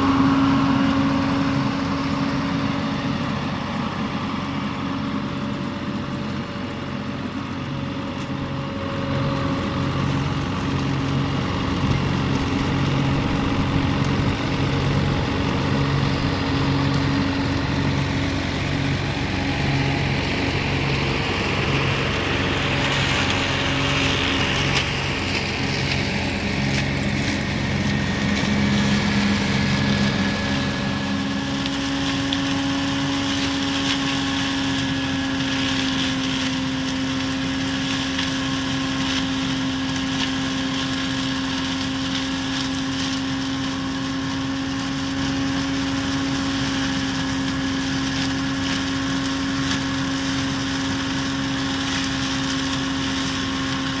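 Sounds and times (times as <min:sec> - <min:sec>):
flail mower chopping stalks: 0:00.0 - 0:54.0
tractor diesel engine under load: 0:00.0 - 0:54.0.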